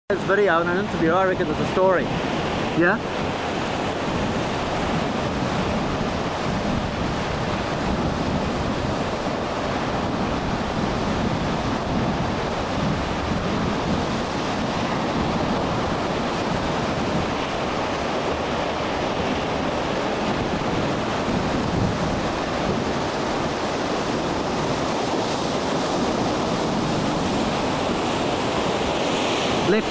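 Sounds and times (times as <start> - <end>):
surf crashing around boat: 0.1 - 29.9.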